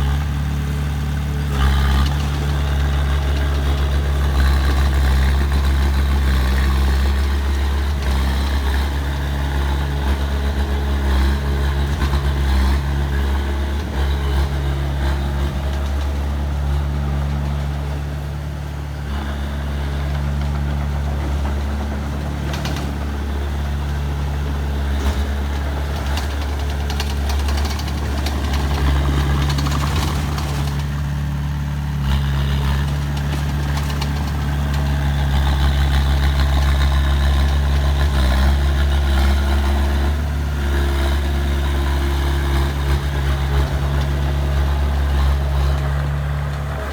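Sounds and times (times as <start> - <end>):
heavy machinery diesel engine running: 0.0 - 46.9.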